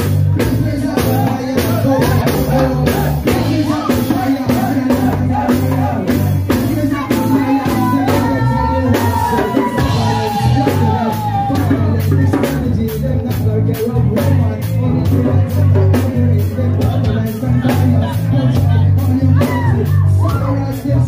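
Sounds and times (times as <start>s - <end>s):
deep bass: 0.0s - 21.0s
live band music: 0.0s - 21.0s
person singing: 0.0s - 21.0s
steady drum beat: 0.0s - 21.0s.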